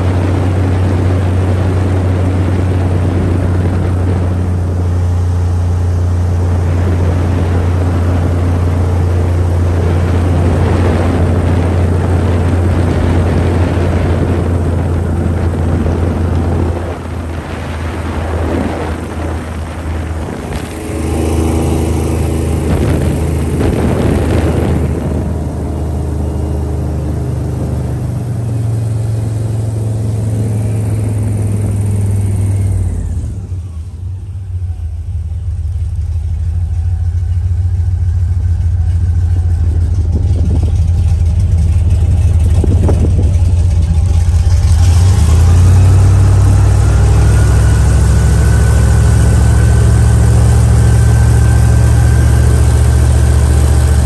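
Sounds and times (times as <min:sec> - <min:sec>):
outboard motor running: 0:00.0 - 0:54.0
water noise: 0:00.0 - 0:54.0
wind: 0:00.0 - 0:54.0.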